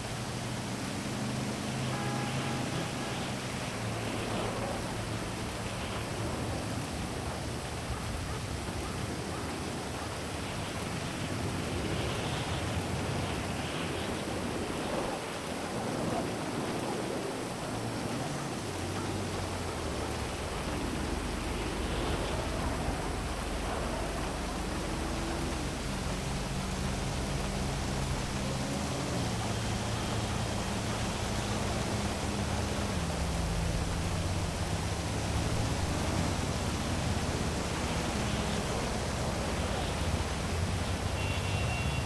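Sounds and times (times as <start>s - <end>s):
heavy rain: 0.0s - 42.0s
low city rumble: 0.0s - 42.0s.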